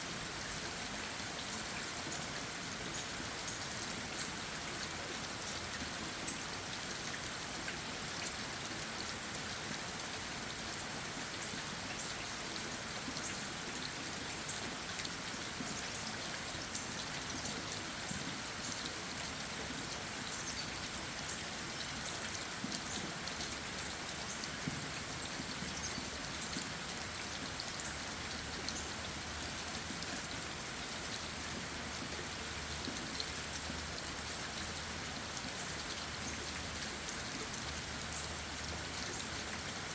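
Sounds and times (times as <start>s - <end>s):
rain on leaves and ground: 0.0s - 39.9s.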